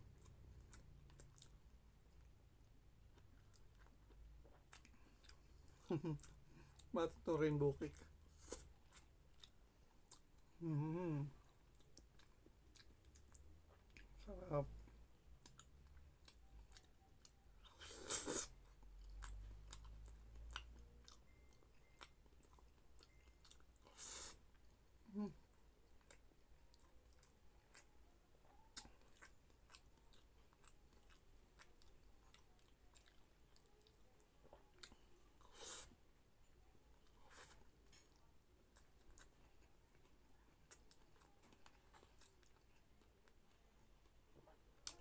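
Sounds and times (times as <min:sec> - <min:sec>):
chewing with wet mouth clicks: 0:00.1 - 0:02.3, 0:03.1 - 0:06.9, 0:07.9 - 0:10.5, 0:11.4 - 0:14.2, 0:14.8 - 0:24.7, 0:25.9 - 0:35.6, 0:37.0 - 0:45.0.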